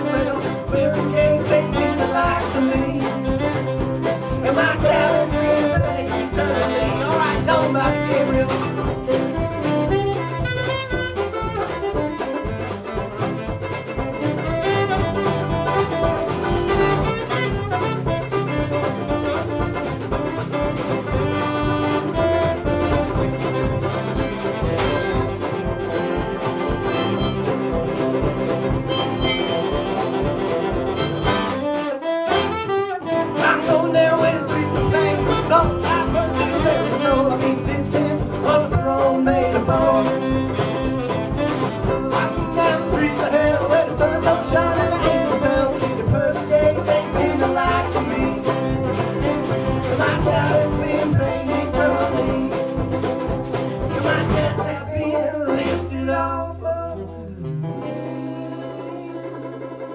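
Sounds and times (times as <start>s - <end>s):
acoustic string-band music: 0.0s - 59.9s.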